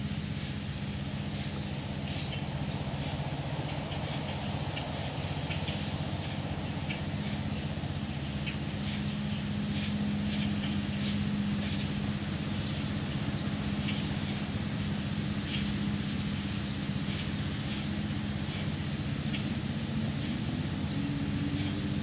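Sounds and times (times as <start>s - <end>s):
bird chirps: 0.0s - 21.9s
low mechanical hum: 0.0s - 22.0s.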